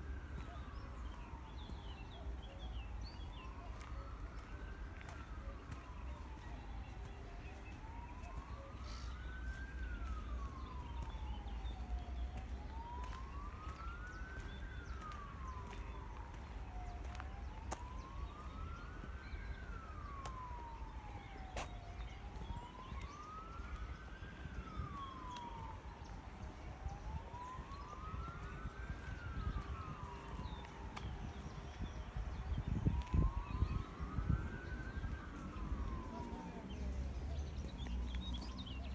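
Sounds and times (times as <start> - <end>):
emergency vehicle siren wailing: 0.0 - 38.9.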